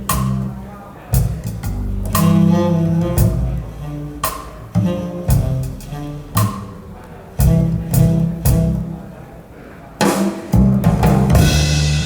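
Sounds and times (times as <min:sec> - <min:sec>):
deep bass line: 0:00.0 - 0:09.2, 0:10.6 - 0:12.0.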